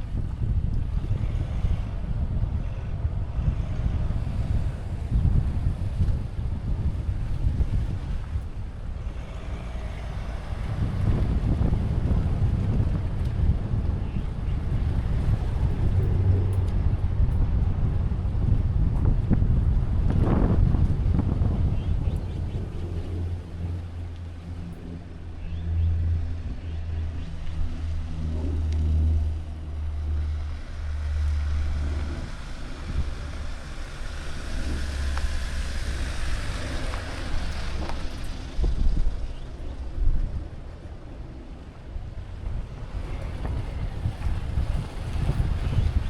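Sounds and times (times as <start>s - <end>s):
car engine and tyres rumbling: 0.0s - 46.0s
road and wind noise: 0.0s - 46.0s.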